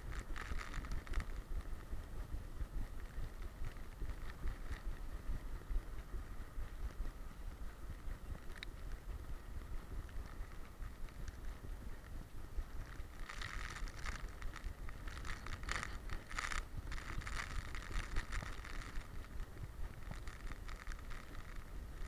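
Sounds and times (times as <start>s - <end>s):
rustling scraping hiss: 0.0s - 22.0s
wind rumbling on microphone: 0.0s - 22.0s.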